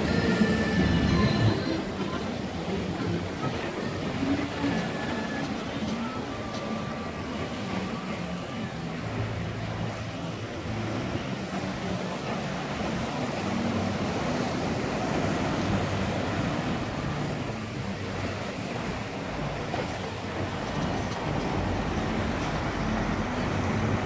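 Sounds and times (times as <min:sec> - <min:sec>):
sea waves breaking on rocks: 0:00.0 - 0:24.0.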